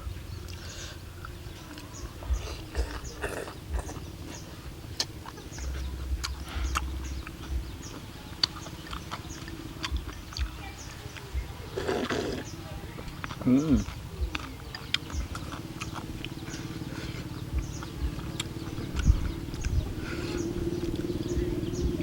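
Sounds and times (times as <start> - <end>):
soft low thumps: 0.0 - 11.8, 12.4 - 22.0
person chewing: 0.1 - 21.4.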